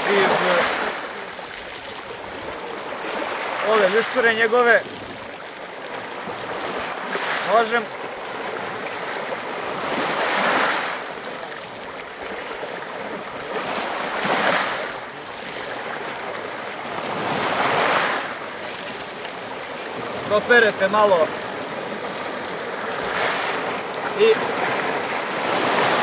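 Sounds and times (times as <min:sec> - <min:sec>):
waves washing on pebble shore: 0:00.0 - 0:26.0.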